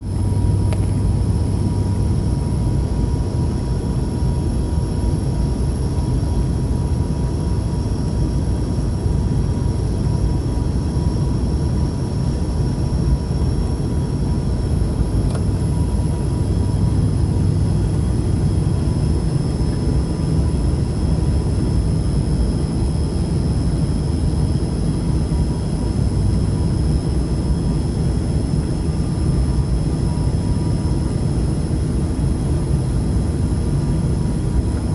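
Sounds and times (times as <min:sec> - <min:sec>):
airliner low rumble: 0:00.0 - 0:34.9
thin steady whine: 0:00.0 - 0:34.9.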